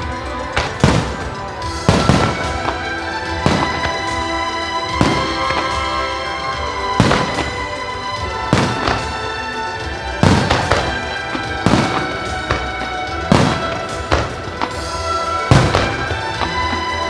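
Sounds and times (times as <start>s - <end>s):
firework shells bursting: 0.0s - 17.0s
music playing: 0.0s - 17.0s.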